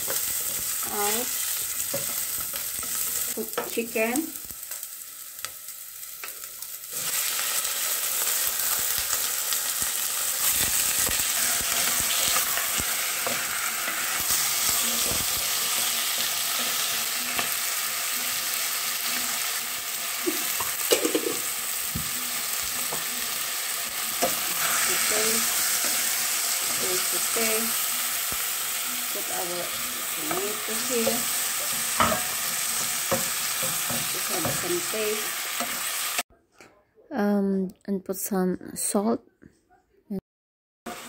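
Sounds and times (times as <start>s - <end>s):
chicken sizzling in hot oil: 0.0s - 36.3s.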